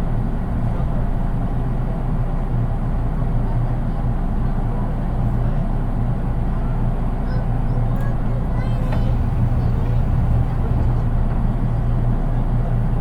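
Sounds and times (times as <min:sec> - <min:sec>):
train interior hum and rumble: 0:00.0 - 0:13.0.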